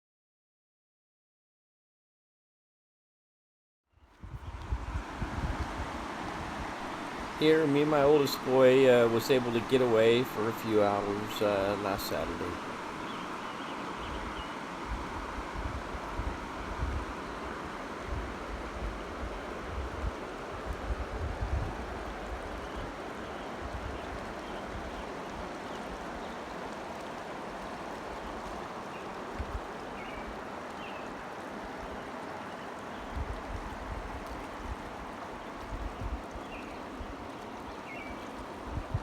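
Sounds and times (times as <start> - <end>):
flowing water rushing: 4.1 - 39.0.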